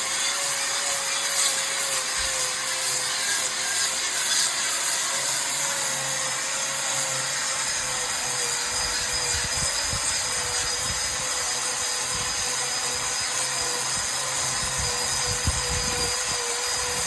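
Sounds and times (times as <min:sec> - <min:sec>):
grinding hiss on stone: 0:00.0 - 0:17.0
power tool motor whine: 0:00.0 - 0:17.0.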